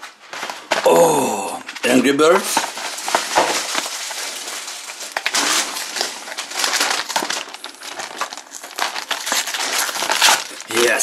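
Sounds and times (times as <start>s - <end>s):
cardboard box crackling and crinkling: 1.8s - 11.0s.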